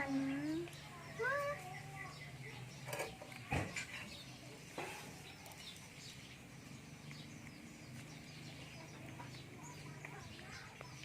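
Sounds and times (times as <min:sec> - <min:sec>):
faint high chirps and animal calls: 0:00.0 - 0:11.0.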